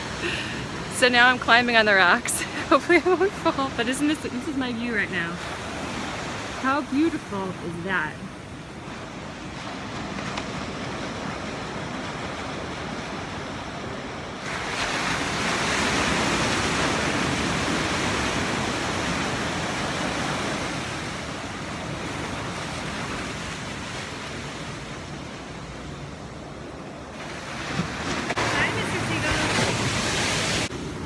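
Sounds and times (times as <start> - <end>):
wave breaking: 0.0 - 25.6, 27.0 - 31.0
waves washing: 0.0 - 31.0.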